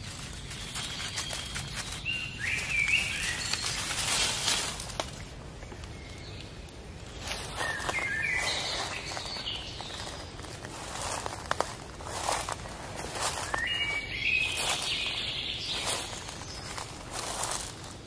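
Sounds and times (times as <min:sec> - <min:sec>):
bird chirping: 0:00.2 - 0:04.3, 0:05.6 - 0:11.3, 0:13.0 - 0:17.7.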